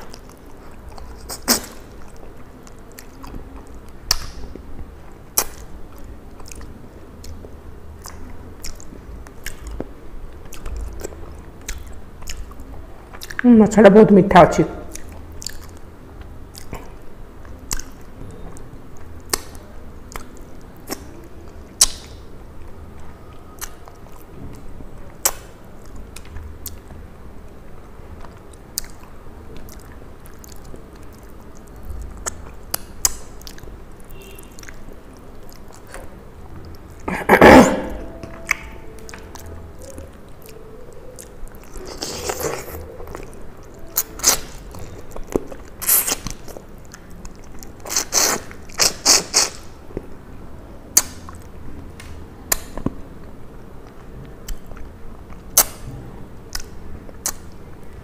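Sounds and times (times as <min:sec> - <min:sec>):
person chewing and smacking: 0:00.0 - 0:13.5, 0:14.9 - 0:27.0, 0:28.1 - 0:37.1, 0:37.8 - 0:50.2, 0:50.9 - 0:53.0, 0:53.8 - 0:58.0.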